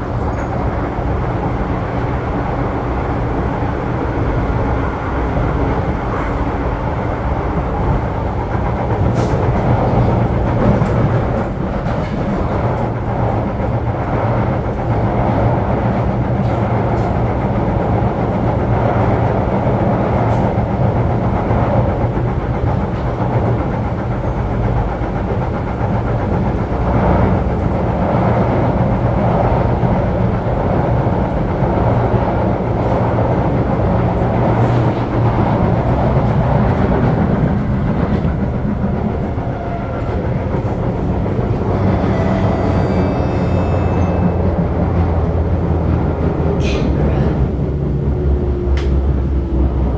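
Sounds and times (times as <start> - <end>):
train rolling rumble: 0.0 - 49.9.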